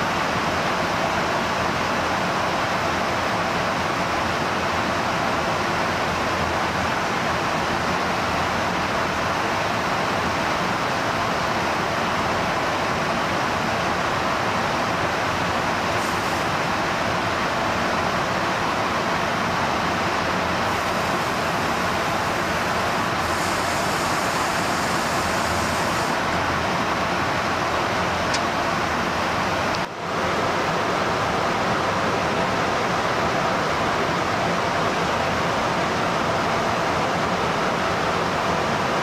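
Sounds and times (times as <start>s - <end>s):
jet aircraft roaring in flight: 0.0s - 39.0s.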